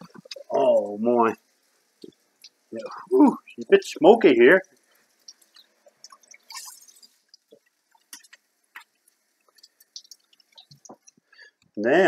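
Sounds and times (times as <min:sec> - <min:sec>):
hot fat spitting in a frying pan: 0:00.0 - 0:11.9
sausages sizzling: 0:00.0 - 0:12.0.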